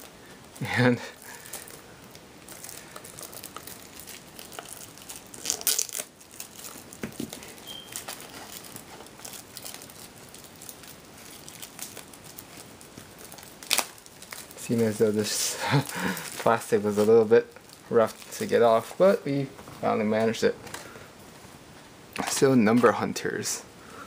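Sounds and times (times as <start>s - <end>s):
plastic shrink-wrap crinkling: 0.0s - 20.9s.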